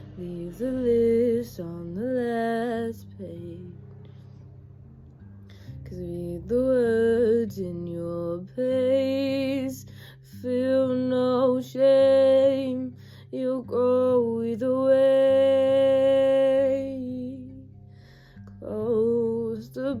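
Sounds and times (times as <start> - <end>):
woman singing a slow ballad: 0.0 - 4.2, 5.5 - 20.0.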